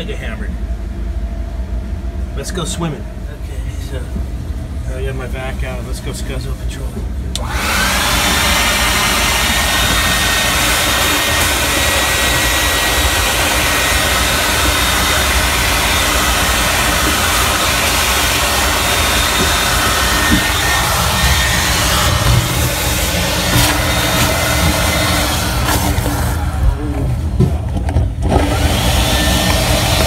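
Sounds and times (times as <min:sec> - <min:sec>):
shop vacuum running: 0:02.3 - 0:30.0.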